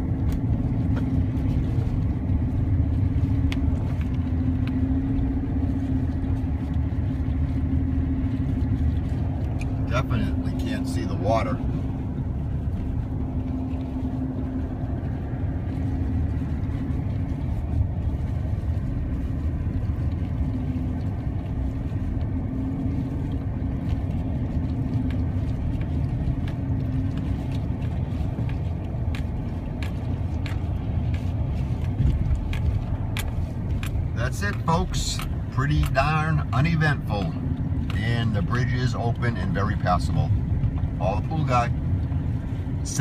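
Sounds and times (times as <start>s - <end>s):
car road rumble and engine drone: 0.0s - 43.0s.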